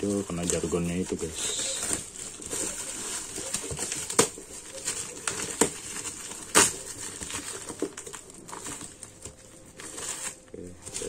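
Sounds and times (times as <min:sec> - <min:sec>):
plastic bag ripping: 0:00.0 - 0:11.0
plastic bag rustling: 0:00.0 - 0:11.0.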